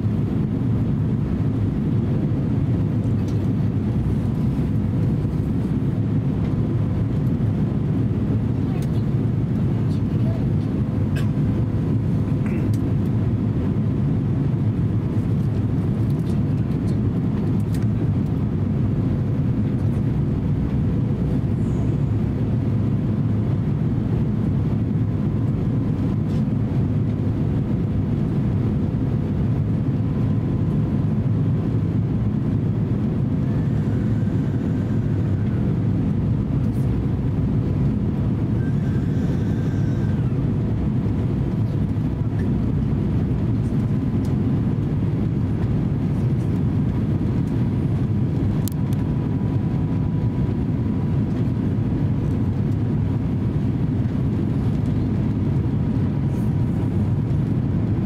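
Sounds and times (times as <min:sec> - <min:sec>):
engine and airflow rumble: 0:00.0 - 0:58.0
faint steady hum: 0:00.0 - 0:58.0.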